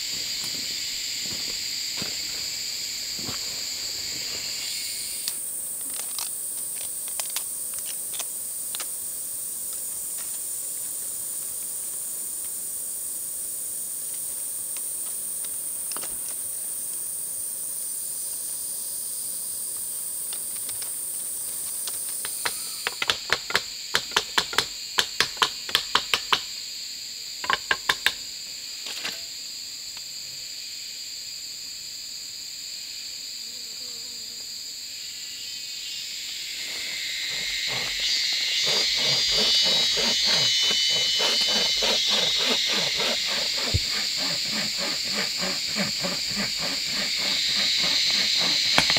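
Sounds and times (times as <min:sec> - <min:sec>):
insects buzzing: 0:00.0 - 0:48.9.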